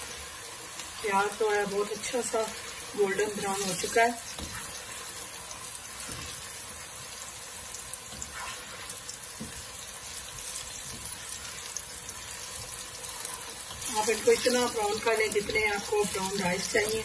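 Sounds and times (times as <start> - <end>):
onions sizzling in hot oil: 0.0 - 17.0
spatula stirring: 2.6 - 7.3, 7.9 - 17.0.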